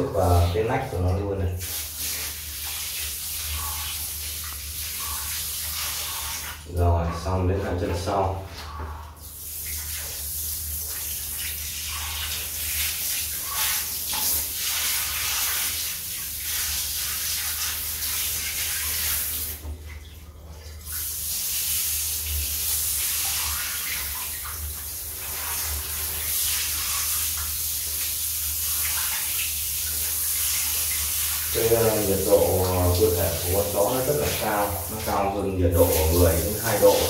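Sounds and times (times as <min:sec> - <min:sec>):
water splashing on floor: 0:00.0 - 0:37.0
shower head spraying water: 0:01.6 - 0:06.7, 0:09.4 - 0:19.6, 0:20.9 - 0:37.0.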